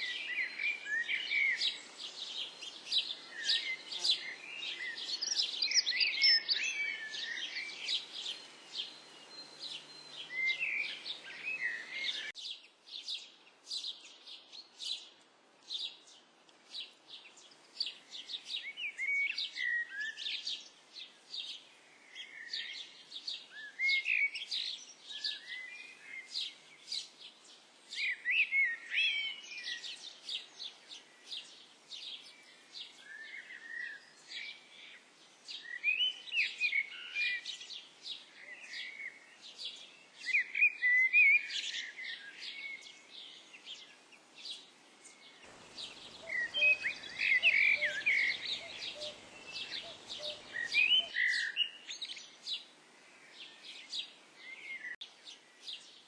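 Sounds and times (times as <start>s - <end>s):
birds chirping and piping: 0.0s - 56.0s.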